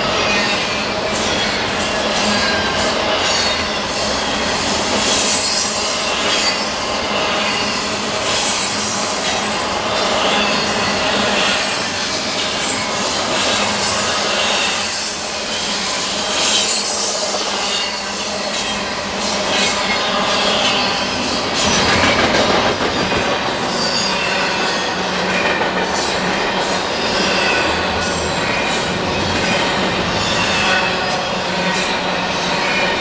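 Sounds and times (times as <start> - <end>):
freight train wheels clacking on rails: 0.0 - 33.0.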